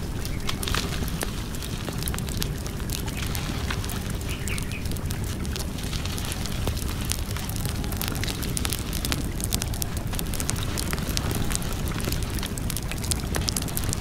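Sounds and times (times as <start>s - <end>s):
low rumble: 0.0s - 14.0s
wood fire crackling and popping: 0.0s - 14.0s.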